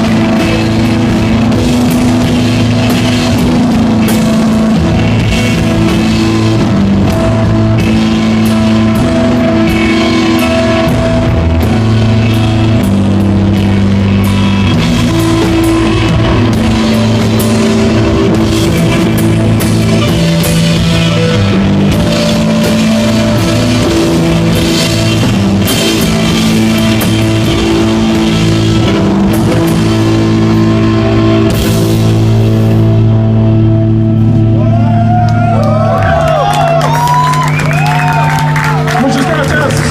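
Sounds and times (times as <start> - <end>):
drum kit and cymbals: 0.0 - 33.4
bass guitar: 0.0 - 39.9
electric guitar: 0.0 - 39.9.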